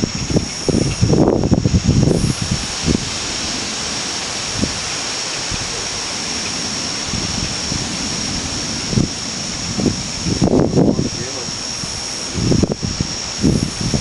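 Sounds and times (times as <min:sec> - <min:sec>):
high-pitched whine: 0:00.0 - 0:14.0
wind rushing: 0:00.0 - 0:14.0.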